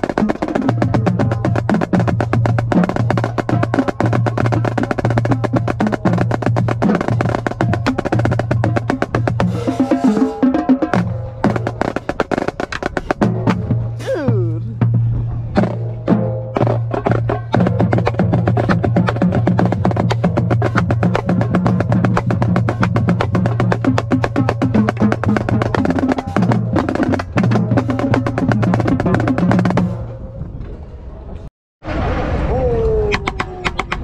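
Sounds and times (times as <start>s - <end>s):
snare drum rolls: 0.0s - 13.9s, 15.6s - 30.0s.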